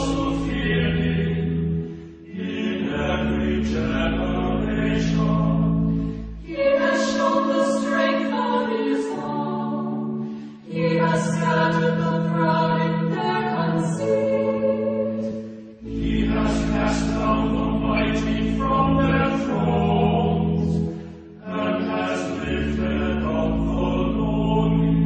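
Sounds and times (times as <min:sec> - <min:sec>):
choir chanting a hymn: 0:00.0 - 0:25.0.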